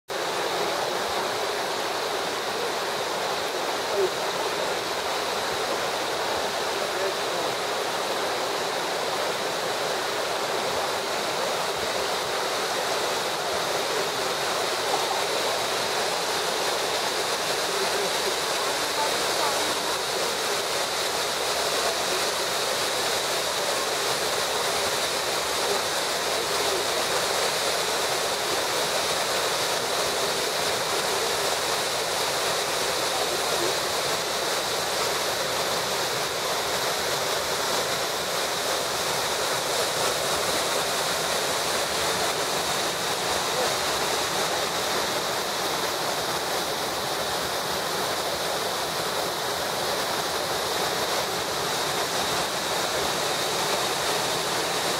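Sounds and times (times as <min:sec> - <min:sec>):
waterfall rushing: 0:00.1 - 0:54.9.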